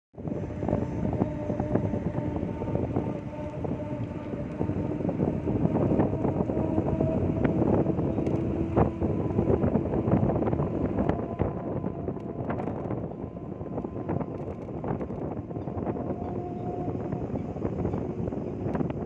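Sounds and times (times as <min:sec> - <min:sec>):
road and tyre rumble: 0:00.1 - 0:19.0
electric scooter motor whine: 0:00.2 - 0:19.0.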